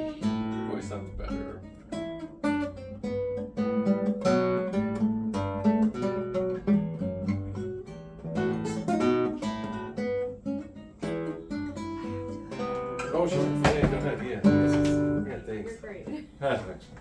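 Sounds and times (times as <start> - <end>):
fingerstyle acoustic guitar: 0.0 - 15.6.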